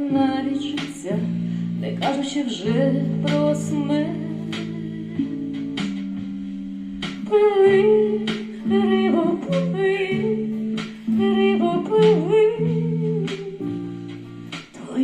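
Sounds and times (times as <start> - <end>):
person singing: 0.0 - 6.2, 7.1 - 15.0
acoustic guitar strumming: 0.0 - 15.0.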